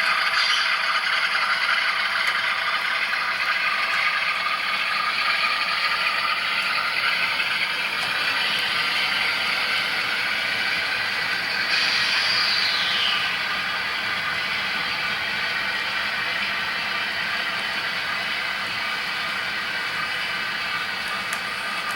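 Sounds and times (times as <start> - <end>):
model train motor whirring: 0.0 - 21.9
wheels on rails: 0.0 - 21.9.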